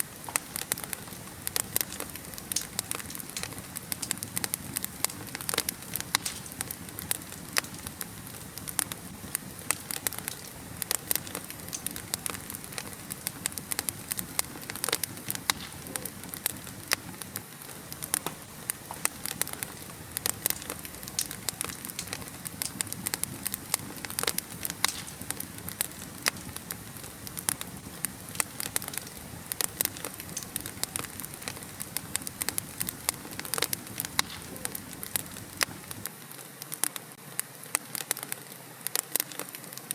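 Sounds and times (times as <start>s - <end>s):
fire hissing: 0.0s - 36.1s
wood fire crackling and popping: 0.0s - 36.1s.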